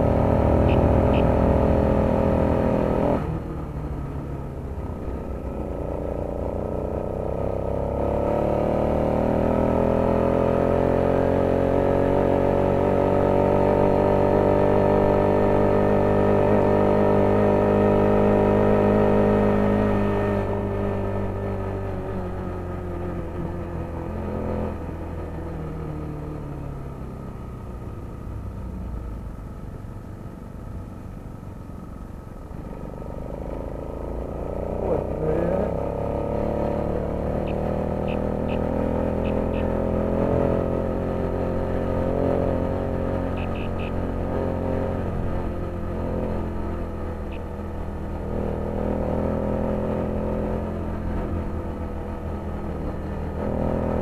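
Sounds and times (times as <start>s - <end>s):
vehicle accelerating: 0.0s - 27.6s, 32.6s - 54.0s
cars and motorcycles passing: 0.0s - 54.0s.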